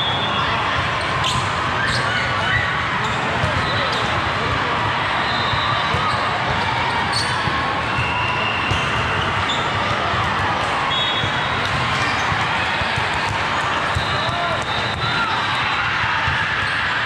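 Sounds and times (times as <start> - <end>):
indistinct voices in echoing hall: 0.0 - 17.0.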